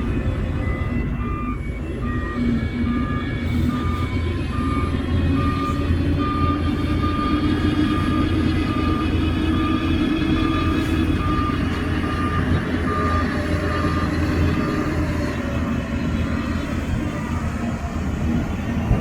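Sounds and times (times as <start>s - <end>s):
diesel engines rumbling: 0.0s - 19.0s
reversing alarm beeping: 0.0s - 19.0s.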